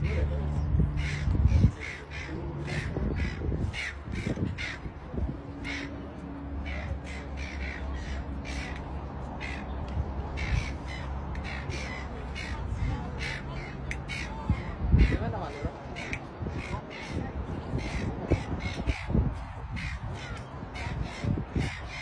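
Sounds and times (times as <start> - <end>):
birds cawing: 0.9 - 22.0.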